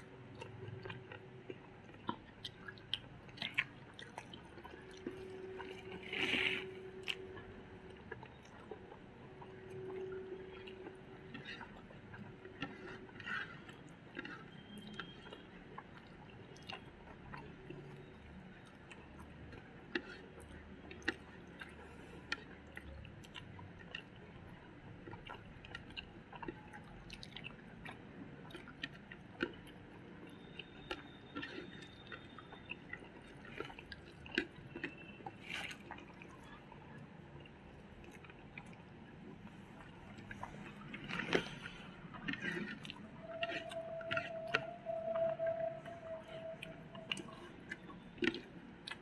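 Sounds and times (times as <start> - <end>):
mouth chewing with wet clicks: 0.0 - 49.0.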